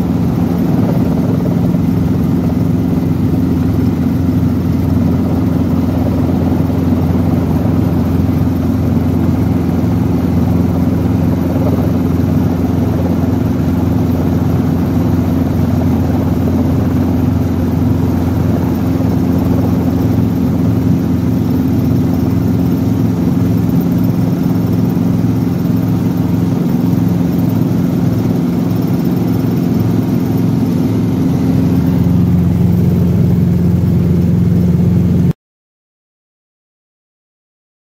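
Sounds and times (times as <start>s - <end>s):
helicopter engine and rotors droning: 0.0s - 35.4s.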